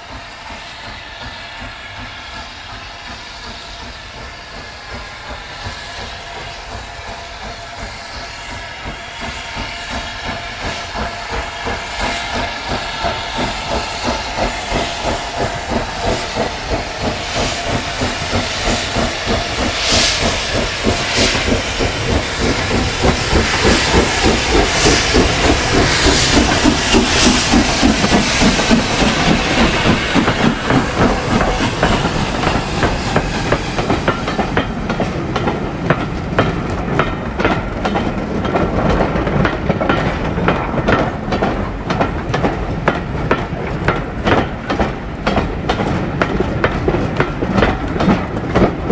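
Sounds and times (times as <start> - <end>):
hissing steam: 0.0 - 48.9
steam locomotive exhaust beating: 0.0 - 48.9.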